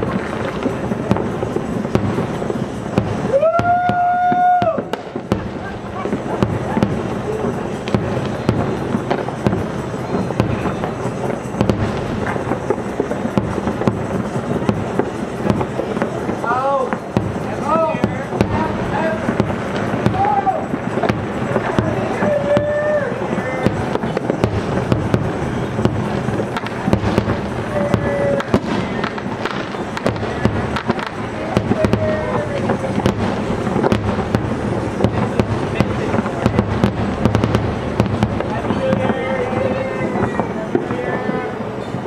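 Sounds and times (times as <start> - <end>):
fireworks bursting with sharp bangs: 0.0 - 42.0
low rumble and crackle: 0.0 - 42.0.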